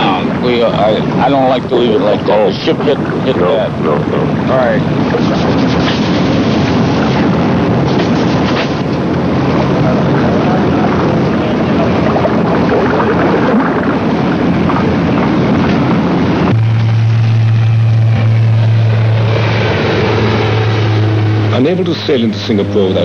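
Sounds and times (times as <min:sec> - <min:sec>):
wind buffeting microphone: 0:00.0 - 0:21.9
propeller aircraft droning: 0:00.0 - 0:23.0
sea rushing: 0:00.0 - 0:23.0.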